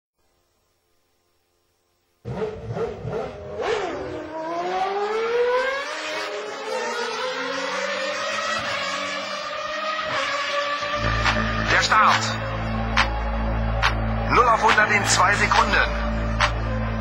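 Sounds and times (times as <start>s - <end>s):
car engine revving: 2.2s - 17.0s.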